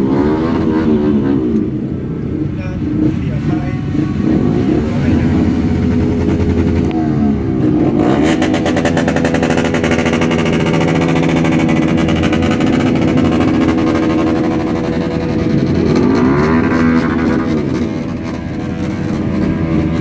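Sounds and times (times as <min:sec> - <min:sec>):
motorcycle engines revving: 0:00.0 - 0:20.0
street traffic: 0:00.0 - 0:20.0.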